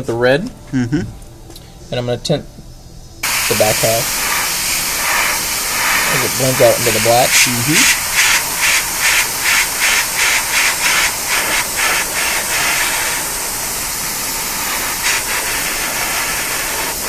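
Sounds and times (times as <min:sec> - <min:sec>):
airbrush hissing: 0:03.2 - 0:17.0.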